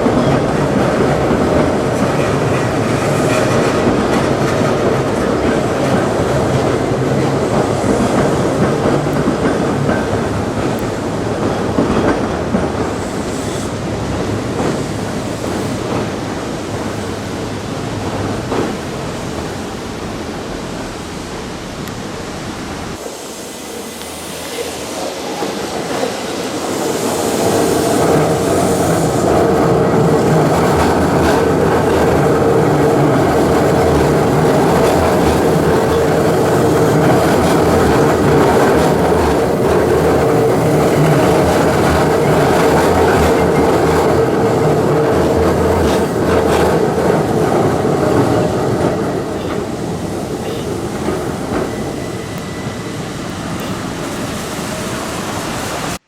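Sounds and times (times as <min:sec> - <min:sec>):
train running hum: 0:00.0 - 0:56.0.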